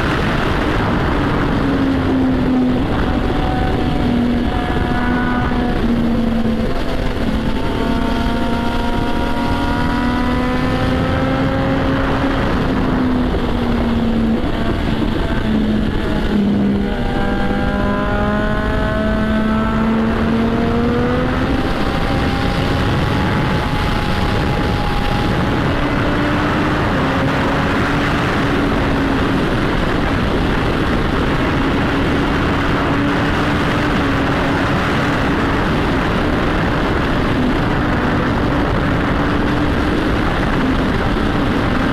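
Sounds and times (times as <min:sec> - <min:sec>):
motorcycle engine and exhaust: 0:00.0 - 0:41.9
wind noise on microphone: 0:00.0 - 0:41.9.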